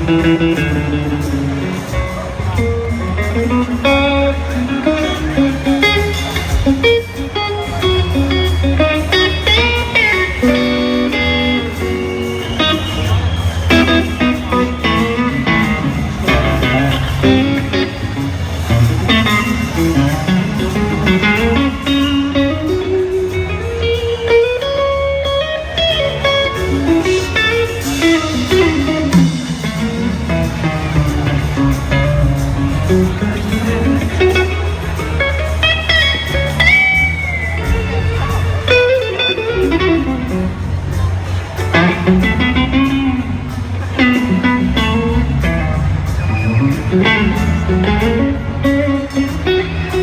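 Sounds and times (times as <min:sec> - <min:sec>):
amplified rock band: 0:00.0 - 0:50.0
electric guitar solo: 0:00.0 - 0:50.0.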